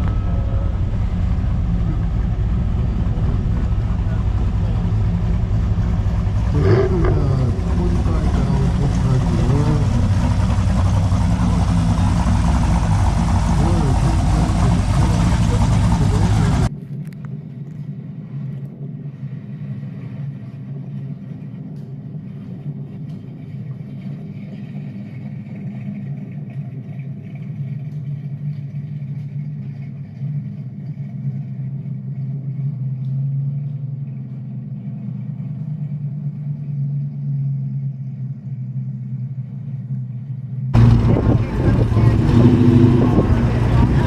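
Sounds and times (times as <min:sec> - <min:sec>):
car engine idling: 0:00.0 - 0:16.7, 0:19.0 - 0:44.0.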